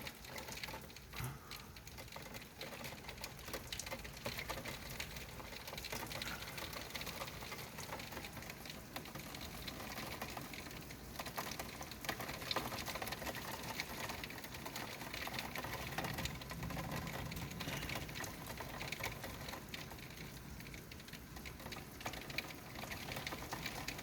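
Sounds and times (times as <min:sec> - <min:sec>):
heavy rain on hard surfaces: 0:00.0 - 0:24.0.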